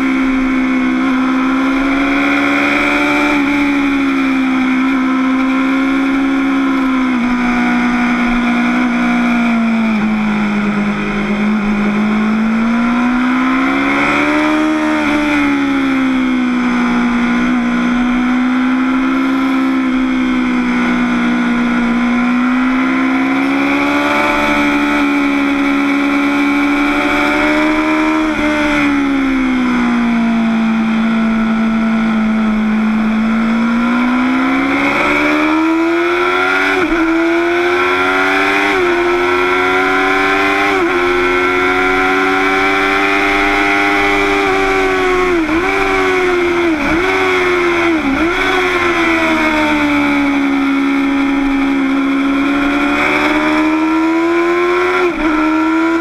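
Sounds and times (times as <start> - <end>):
motorcycle engine at speed: 0.0 - 56.0.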